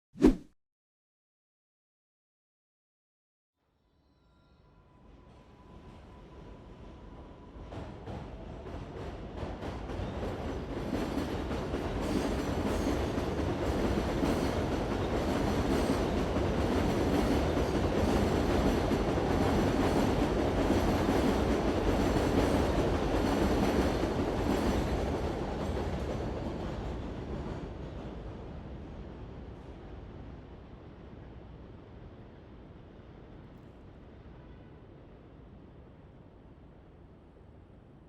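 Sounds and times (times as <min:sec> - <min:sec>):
subway train on rails: 0:03.8 - 0:38.0.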